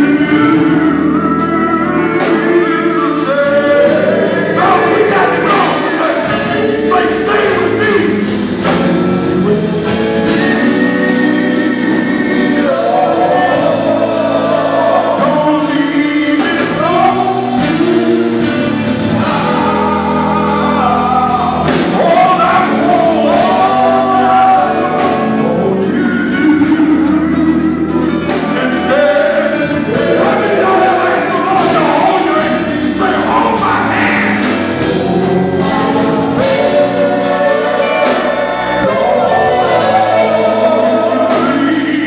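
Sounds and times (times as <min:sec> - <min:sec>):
drums: 0:00.0 - 0:42.0
electric bass: 0:00.0 - 0:42.0
male vocal group singing in harmony: 0:00.0 - 0:42.0.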